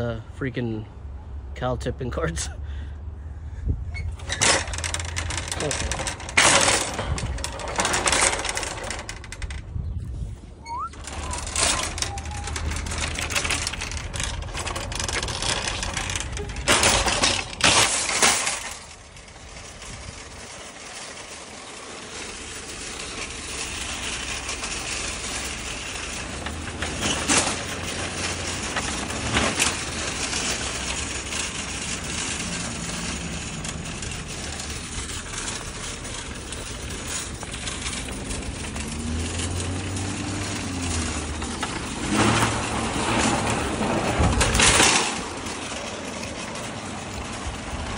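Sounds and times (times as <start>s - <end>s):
cart casters rattling on asphalt: 0.0s - 47.9s
shopping carts clattering together: 4.0s - 9.7s, 10.6s - 47.9s.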